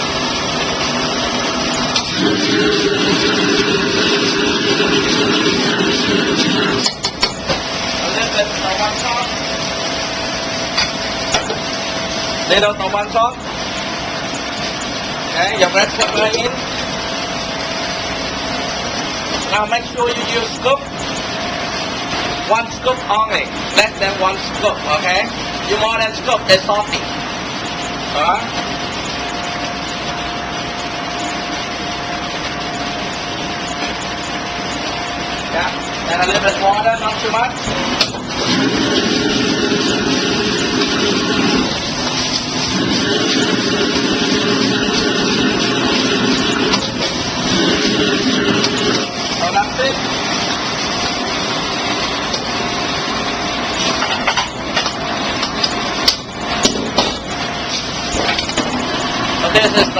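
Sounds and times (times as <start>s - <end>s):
exhaust hood and burner roar: 0.0s - 59.9s
thin steady whine: 0.0s - 59.9s.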